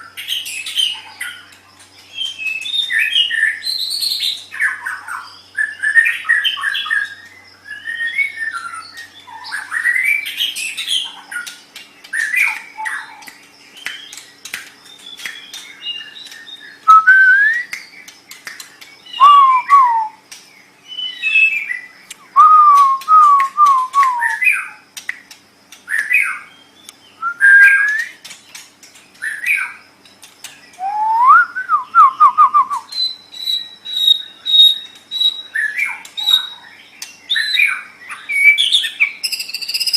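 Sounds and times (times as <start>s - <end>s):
songbird singing whistled phrases: 2.1s - 11.2s, 12.1s - 24.8s, 25.9s - 28.3s, 30.7s - 39.9s.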